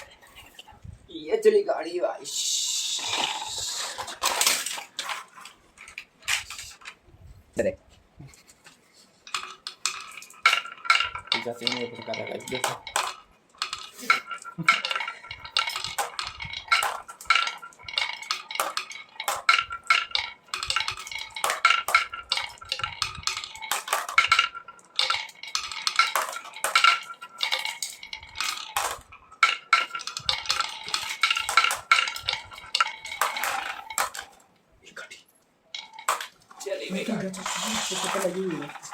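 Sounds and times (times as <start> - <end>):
small toy pieces clinking: 2.3 - 7.0, 9.2 - 34.5, 35.7 - 38.9.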